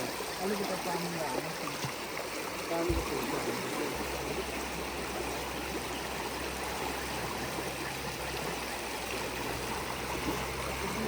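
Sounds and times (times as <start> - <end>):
flowing river water: 0.0 - 11.0.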